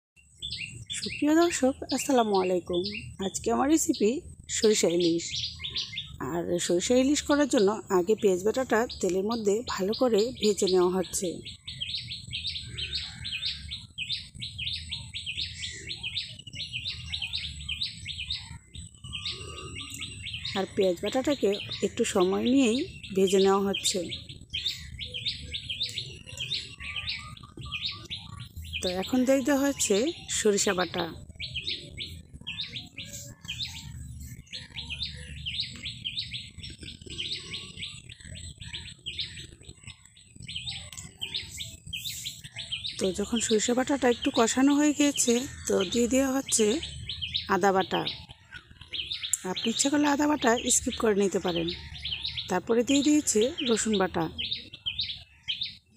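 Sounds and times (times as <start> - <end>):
small birds chirping: 0.2 - 55.9.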